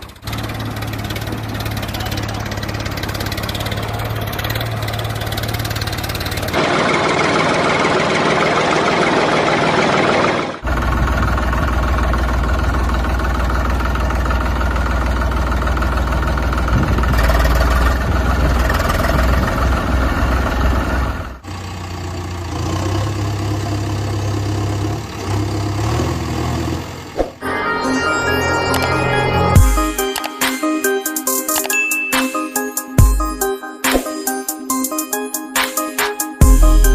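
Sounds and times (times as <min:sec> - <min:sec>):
vehicle engine running: 0:00.0 - 0:30.2, 0:36.4 - 0:36.9.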